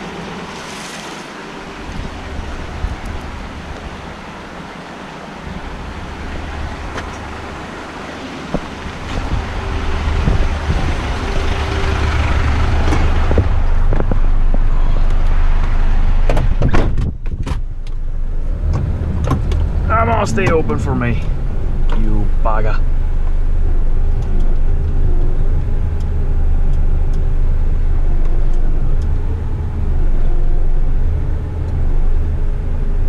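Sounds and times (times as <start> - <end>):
diesel engine idling: 0.0 - 16.3, 17.7 - 33.0.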